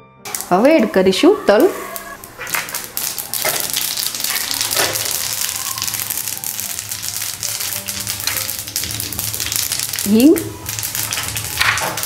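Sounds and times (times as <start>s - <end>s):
seeds sizzling and popping in oil: 0.3s - 12.0s.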